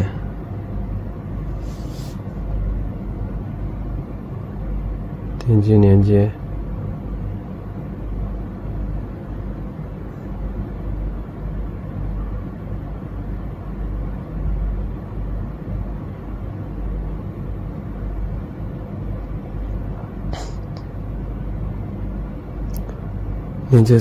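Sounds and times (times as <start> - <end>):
low rumble and hum: 0.0 - 24.0.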